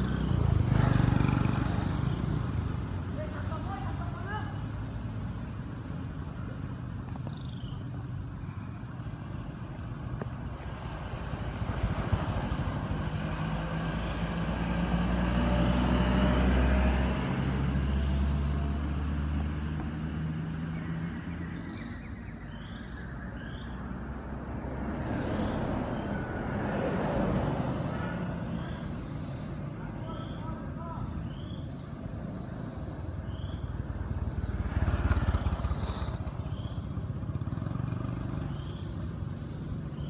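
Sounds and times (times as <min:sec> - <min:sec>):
vehicles passing on road: 0:00.0 - 0:40.0.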